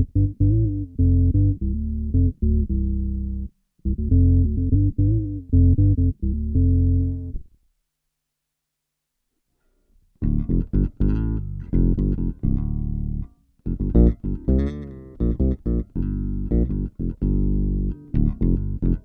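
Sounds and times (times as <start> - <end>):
electric bass riff with octave effect: 0.0 - 7.5, 10.2 - 19.0.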